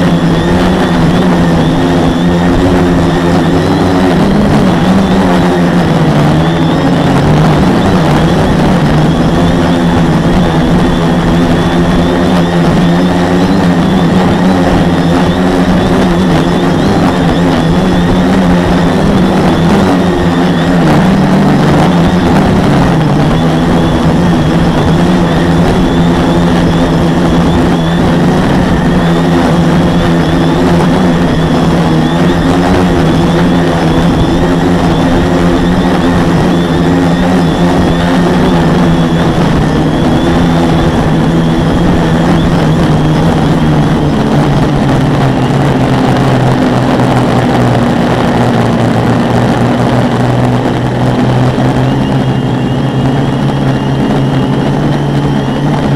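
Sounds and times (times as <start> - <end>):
drone motors buzzing: 0.0 - 55.9
rushing noise: 0.0 - 55.9.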